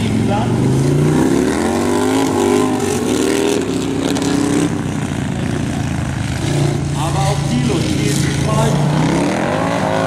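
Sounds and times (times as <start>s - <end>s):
motorcycle engines racing: 0.0s - 10.0s.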